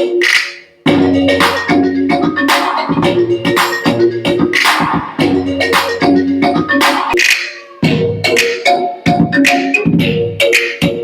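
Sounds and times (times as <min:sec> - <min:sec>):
song through portable speaker: 0:00.0 - 0:11.0.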